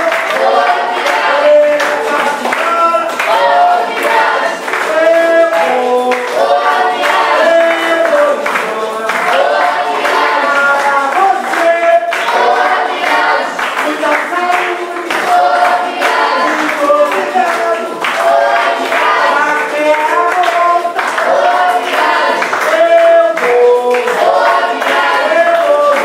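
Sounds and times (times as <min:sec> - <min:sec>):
hand clapping: 0:00.0 - 0:26.0
young voices singing together: 0:00.0 - 0:26.0.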